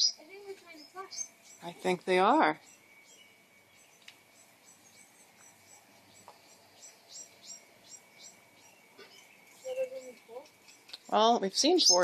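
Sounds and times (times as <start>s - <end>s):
faint steady high tone: 0.0s - 10.5s
songbirds chirping: 0.0s - 12.0s.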